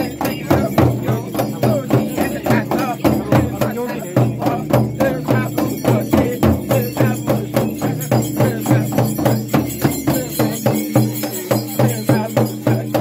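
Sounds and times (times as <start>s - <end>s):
bells jingling: 0.0s - 13.0s
frame drum beaten with stick: 0.0s - 13.0s.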